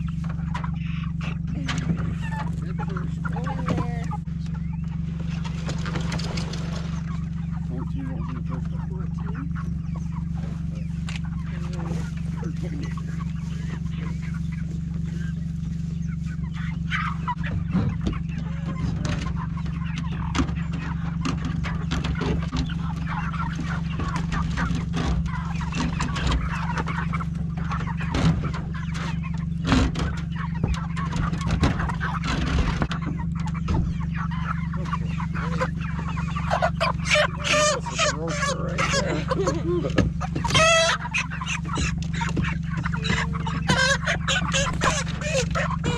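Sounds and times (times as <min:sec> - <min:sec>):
chickens clucking and squawking: 0:00.0 - 0:45.9
steady low hum: 0:00.0 - 0:45.9.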